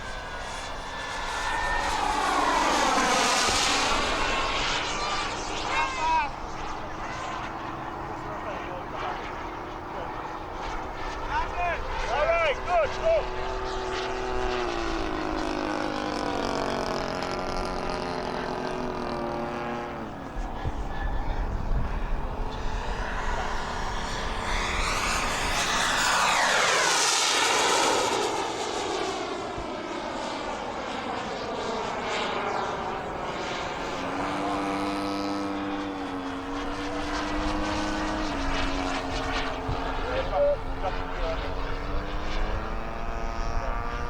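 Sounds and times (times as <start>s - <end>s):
model airplane engine passing by: 0.0s - 44.0s.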